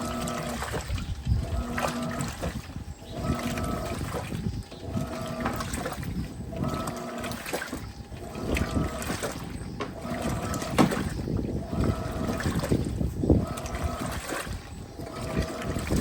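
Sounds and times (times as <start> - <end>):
washing machine motor humming: 0.0 - 16.0
water and clothes swishing: 0.0 - 16.0.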